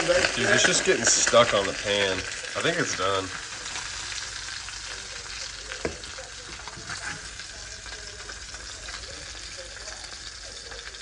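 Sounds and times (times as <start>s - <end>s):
oil sizzling in skillet: 0.0s - 11.0s.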